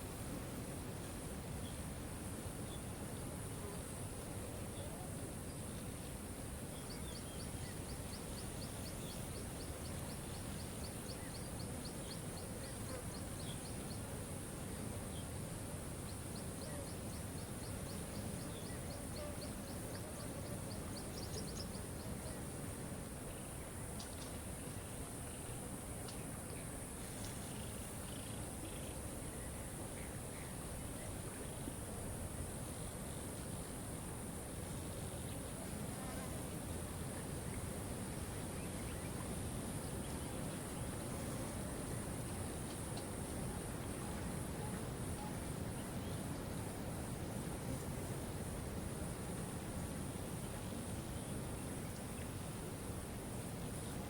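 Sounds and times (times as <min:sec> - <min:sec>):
high insect hum: 0:00.0 - 0:54.0.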